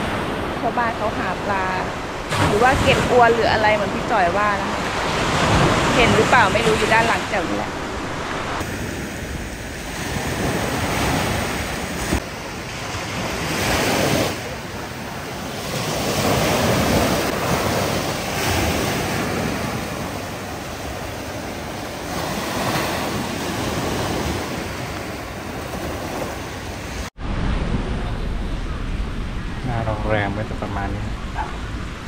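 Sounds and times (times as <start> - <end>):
surf washing onto beach: 0.0 - 32.0
wind buffeting microphone: 0.0 - 32.0.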